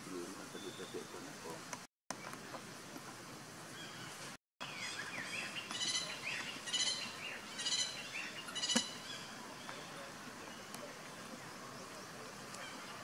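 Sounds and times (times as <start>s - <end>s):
birds chirping: 0.4s - 2.8s, 3.7s - 13.0s.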